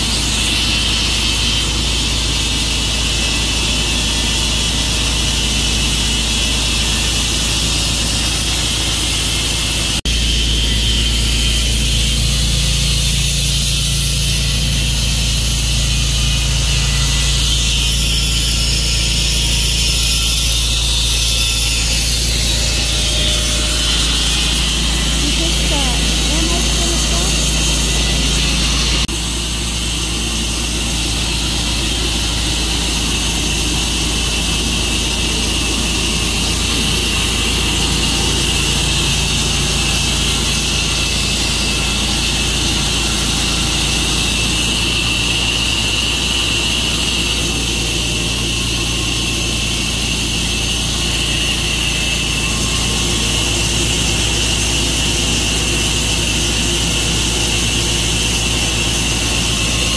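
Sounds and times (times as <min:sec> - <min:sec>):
saw hissing through log: 0:00.0 - 0:59.9
sawmill engine hum: 0:00.0 - 0:59.9.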